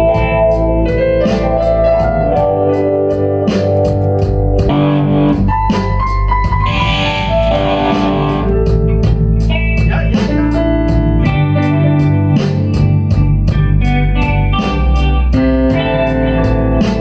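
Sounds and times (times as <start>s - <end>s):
bass: 0.0s - 17.0s
drums with steady beat: 0.0s - 17.0s
electric guitar: 0.0s - 17.0s
organ: 0.0s - 17.0s.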